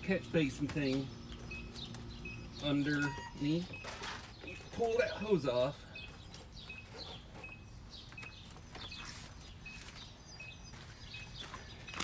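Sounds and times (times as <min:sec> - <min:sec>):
outdoor background noise: 0:00.0 - 0:12.0
faint bird chirping: 0:00.1 - 0:12.0.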